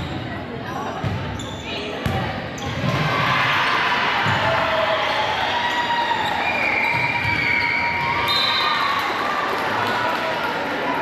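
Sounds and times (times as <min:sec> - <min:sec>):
crowd and players noise: 0:00.0 - 0:11.0.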